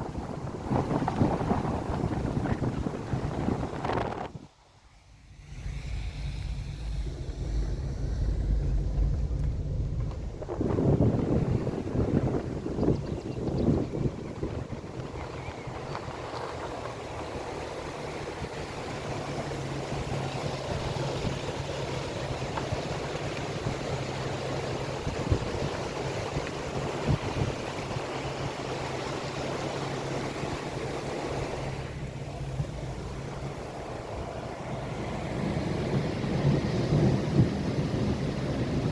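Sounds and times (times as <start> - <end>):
car engine hum: 0.0 - 38.9
road and wind noise: 0.0 - 38.9.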